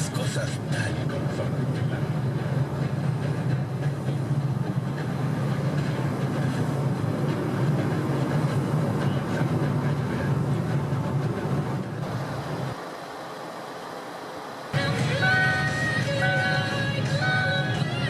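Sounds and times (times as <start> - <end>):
vehicle drone: 0.0 - 18.0.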